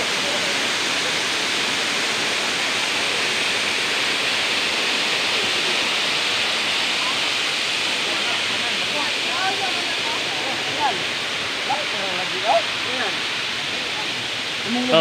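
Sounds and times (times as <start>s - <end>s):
waterfall spilling into a pool: 0.0s - 15.0s.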